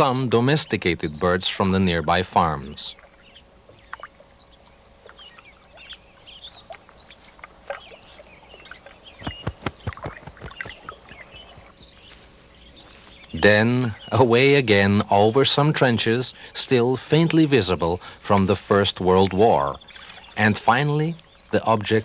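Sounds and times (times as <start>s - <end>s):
birds chirping and whistling: 2.4s - 22.0s.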